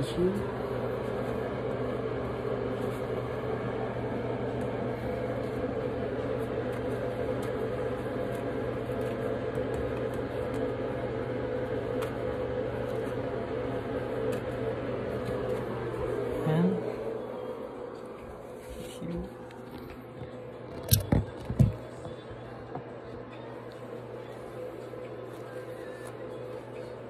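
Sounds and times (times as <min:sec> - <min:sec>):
ventilation hum: 0:00.0 - 0:27.0.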